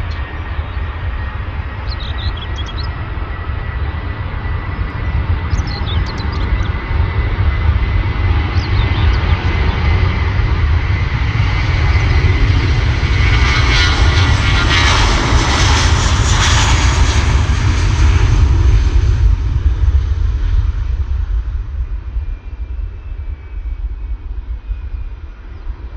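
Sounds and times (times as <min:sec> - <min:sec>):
jet engines at takeoff: 0:00.0 - 0:25.9.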